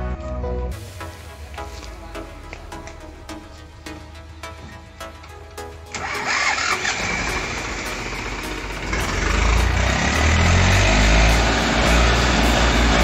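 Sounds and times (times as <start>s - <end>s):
tractor diesel engine straining: 2.1s - 13.0s.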